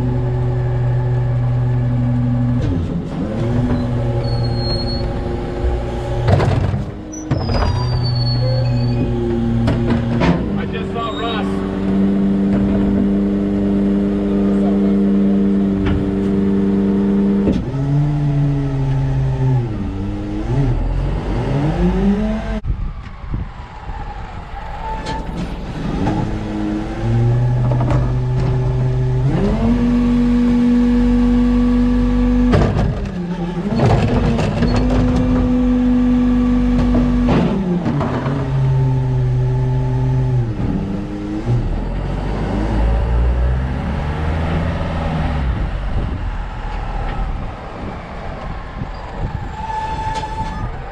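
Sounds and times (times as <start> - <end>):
garbage truck engine revving: 0.0 - 22.6, 23.7 - 50.9.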